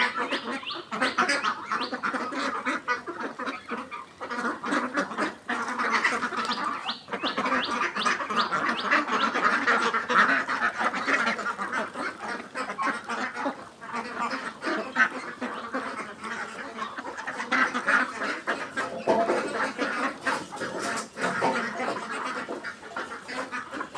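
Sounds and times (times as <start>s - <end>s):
ducks quacking: 0.0s - 23.9s.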